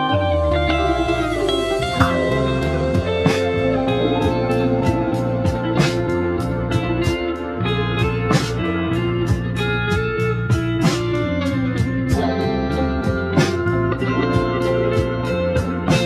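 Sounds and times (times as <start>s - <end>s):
guitar-led instrumental music: 0.0s - 16.0s.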